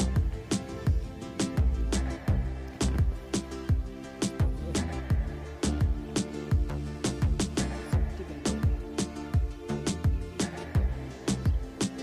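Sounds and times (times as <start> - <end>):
steady drum beat: 0.0 - 12.0.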